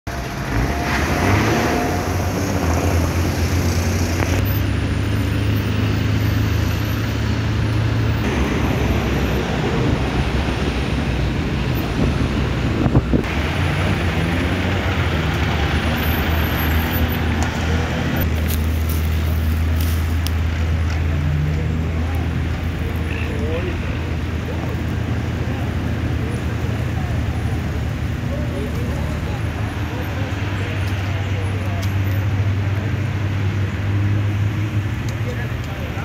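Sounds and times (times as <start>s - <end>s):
passing traffic: 0.0s - 36.0s
vehicle engine hum: 0.0s - 36.0s.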